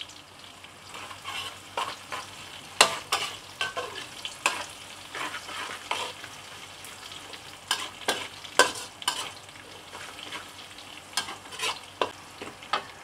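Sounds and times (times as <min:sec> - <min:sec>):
light sizzle of frying: 0:00.0 - 0:13.0
metal spatula scraping a wok: 0:00.9 - 0:12.9.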